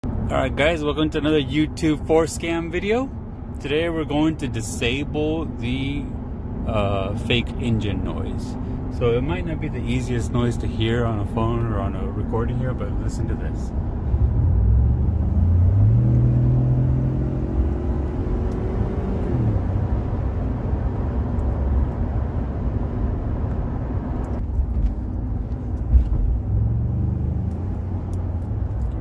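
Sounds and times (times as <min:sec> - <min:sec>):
road noise: 0:00.0 - 0:29.0
truck engine accelerating: 0:02.6 - 0:29.0.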